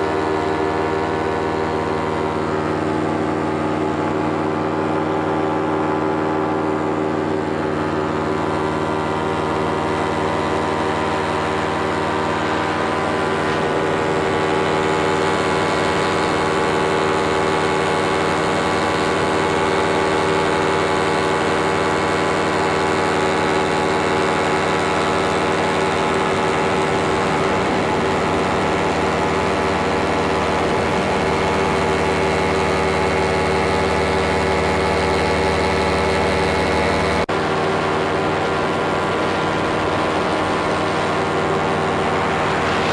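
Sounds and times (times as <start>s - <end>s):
paramotor engine and propeller droning: 0.0s - 42.9s.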